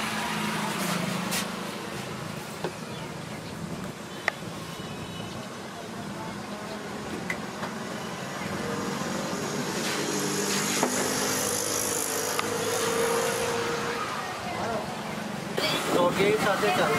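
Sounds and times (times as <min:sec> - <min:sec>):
low traffic hum: 0:00.0 - 0:16.9.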